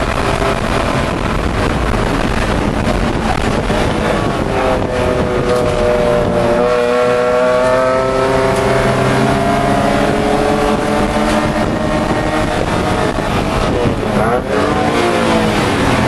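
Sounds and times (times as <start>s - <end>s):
race car engine at high revs: 0.0s - 16.0s
road and wind noise: 0.0s - 16.0s.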